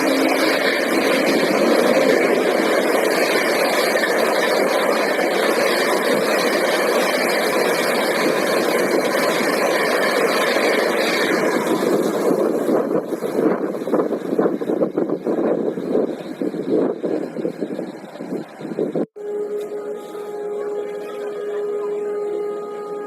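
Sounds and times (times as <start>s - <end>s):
train rushing past on rails: 0.0s - 23.0s.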